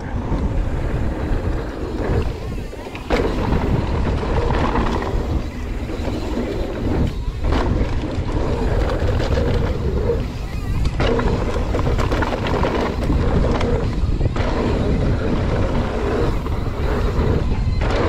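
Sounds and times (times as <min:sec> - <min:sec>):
bike rumbling and rattling: 0:00.0 - 0:18.0
wind buffeting microphone: 0:00.0 - 0:18.0.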